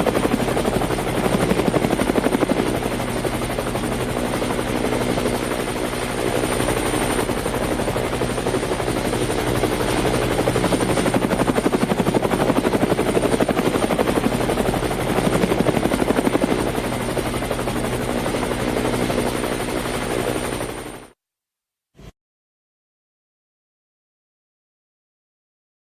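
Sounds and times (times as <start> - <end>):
helicopter rotor chopping: 0.0 - 21.1
helicopter engine whine: 0.0 - 21.2.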